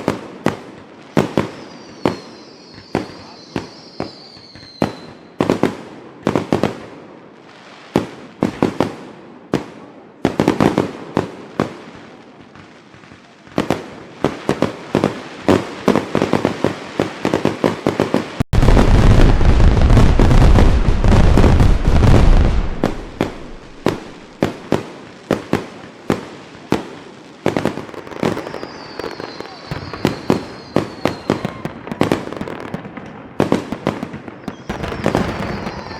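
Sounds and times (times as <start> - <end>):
fireworks bangs and crackles: 0.0 - 35.9
fireworks barrage with deep rumble: 0.0 - 35.9.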